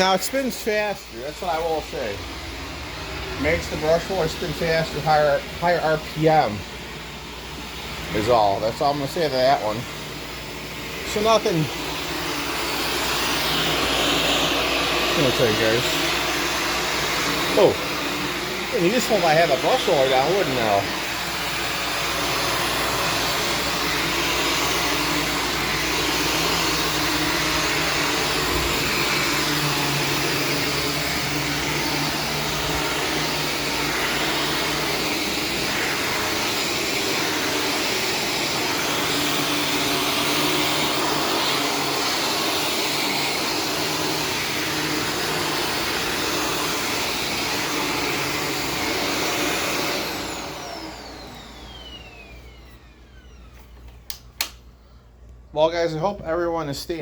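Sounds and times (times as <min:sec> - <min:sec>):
upright vacuum running on carpet: 0:00.0 - 0:54.5
vacuum motor winding down: 0:00.0 - 0:54.6.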